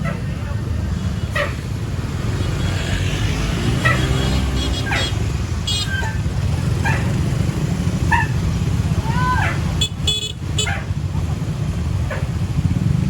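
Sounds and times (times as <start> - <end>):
bus engine: 0.0 - 13.0
heavy road traffic rumble: 0.0 - 13.0.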